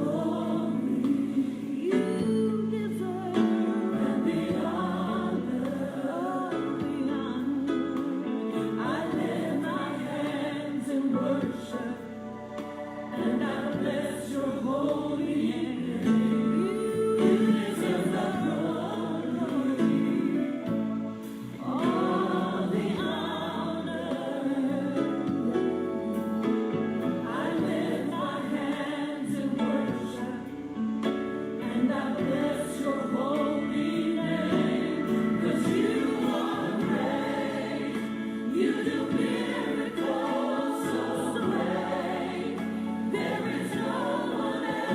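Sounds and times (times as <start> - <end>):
backing music: 0.0 - 44.9
choir singing gospel song: 0.0 - 44.9.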